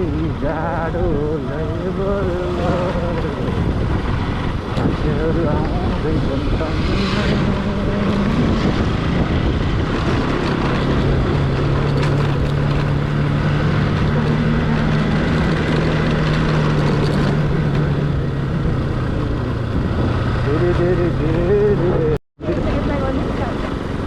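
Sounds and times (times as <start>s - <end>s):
motorcycle engine running: 0.0s - 24.0s
wind noise: 0.0s - 24.0s.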